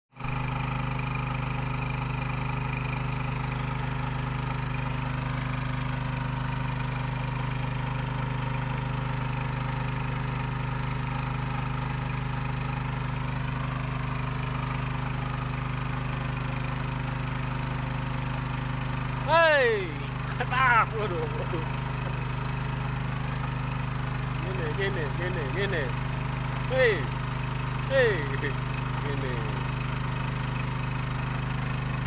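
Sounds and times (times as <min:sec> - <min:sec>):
small engine running steadily: 0:00.1 - 0:32.0.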